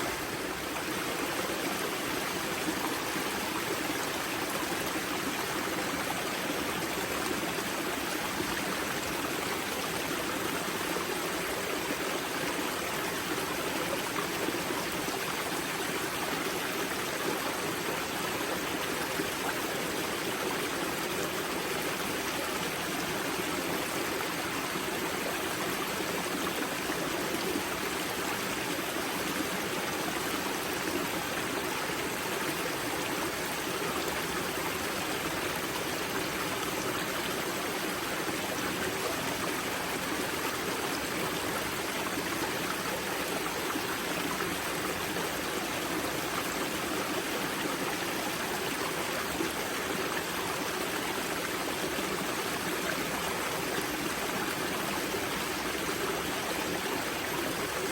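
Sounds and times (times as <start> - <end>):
water flowing over rocks: 0.0 - 57.9.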